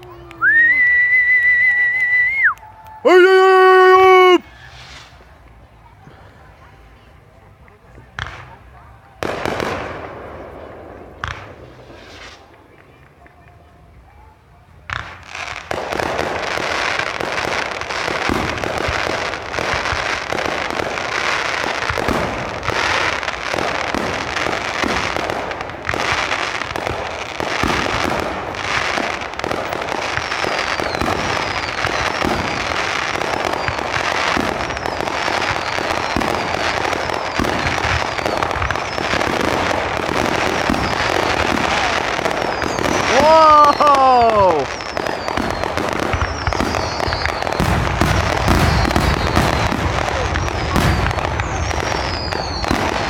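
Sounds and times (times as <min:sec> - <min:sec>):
fireworks whistling: 0:00.0 - 0:05.6, 0:08.1 - 0:13.1, 0:14.9 - 0:53.0
fireworks bangs: 0:00.0 - 0:53.0
fireworks crackling and popping: 0:00.0 - 0:53.0.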